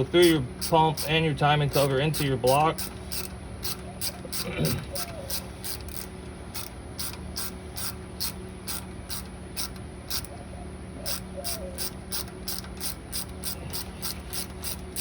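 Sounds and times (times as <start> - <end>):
ratchet wrench clicking: 0.0 - 10.3, 11.1 - 15.0
steady low hum: 0.0 - 15.0.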